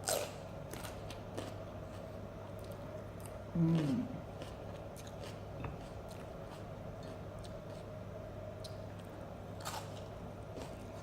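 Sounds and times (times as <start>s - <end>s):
chewing and eating: 0.0s - 8.0s, 8.6s - 11.0s
steady low hum: 0.0s - 11.0s.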